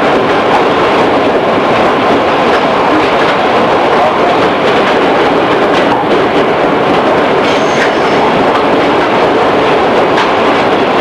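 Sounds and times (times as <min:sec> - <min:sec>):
rail joint clicks: 0:00.0 - 0:11.0
train wheels rumbling on rail: 0:00.0 - 0:11.0.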